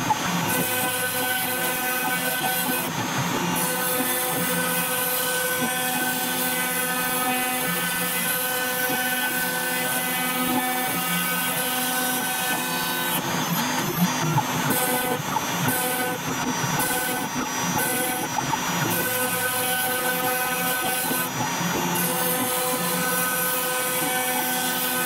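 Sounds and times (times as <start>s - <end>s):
router milling machine whine: 0.0s - 25.0s.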